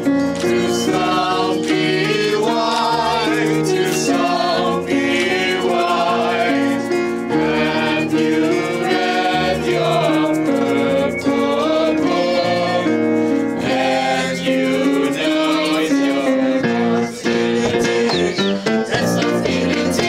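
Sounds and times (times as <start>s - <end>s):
song with singing: 0.3s - 20.0s.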